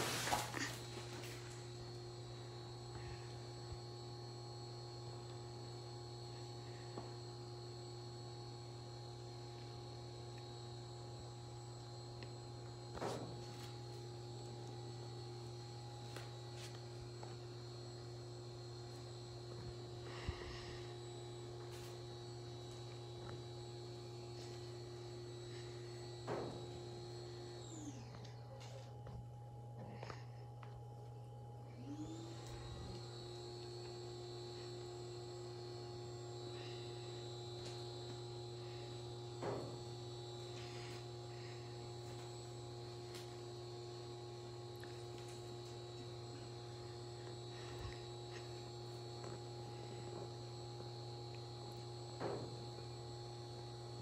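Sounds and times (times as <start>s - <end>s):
small motor humming: 0.0s - 29.2s, 31.7s - 54.0s.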